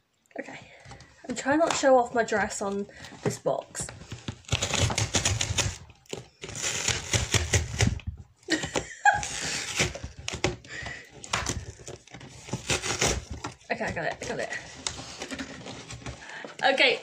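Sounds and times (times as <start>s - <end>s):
cardboard box and tissue paper rustling: 1.8s - 17.0s.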